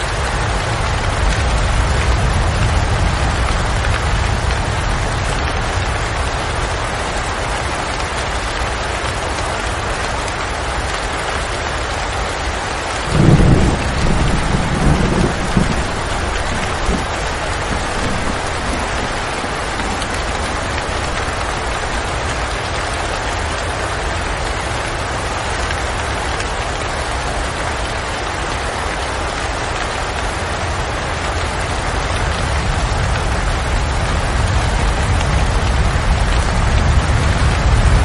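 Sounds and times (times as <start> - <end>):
rain falling outside a window: 0.0 - 38.0.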